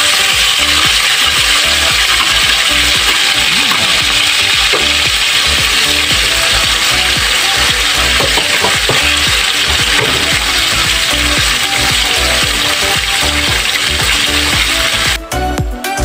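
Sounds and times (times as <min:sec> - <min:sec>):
pork sizzling in hot oil: 0:00.0 - 0:15.2.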